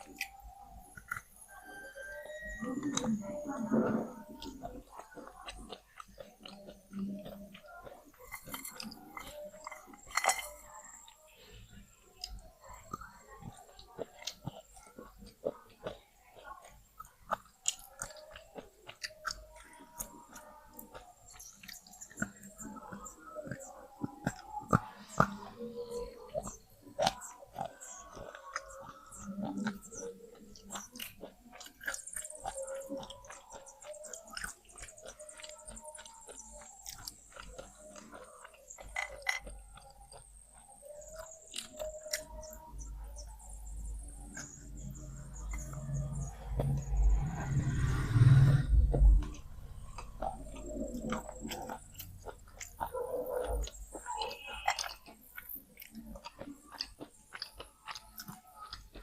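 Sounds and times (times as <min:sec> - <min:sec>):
person chewing with crunches: 0:00.0 - 0:59.0.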